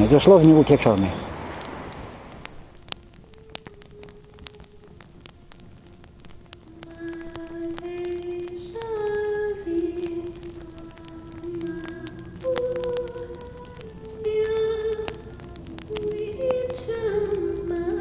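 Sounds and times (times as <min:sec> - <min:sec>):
sharp crackling clicks: 0:00.0 - 0:18.0
slow music with sliding notes: 0:02.5 - 0:18.0.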